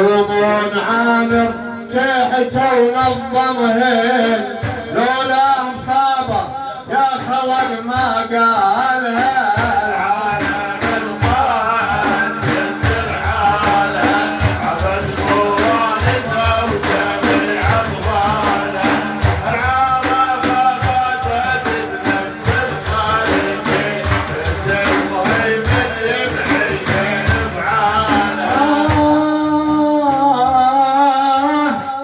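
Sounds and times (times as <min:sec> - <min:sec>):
hand drums beating: 0:00.0 - 0:31.9.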